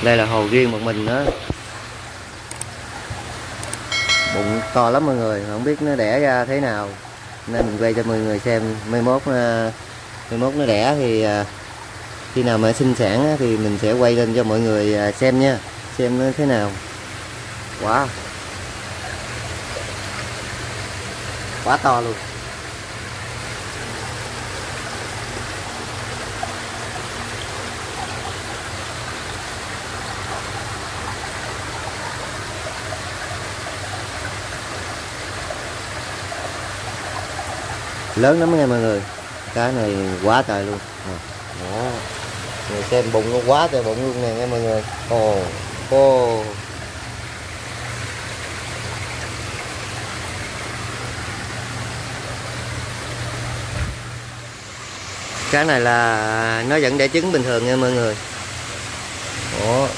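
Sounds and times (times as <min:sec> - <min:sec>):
flowing water hiss: 0:00.0 - 0:59.9
water pump humming: 0:00.0 - 0:59.9.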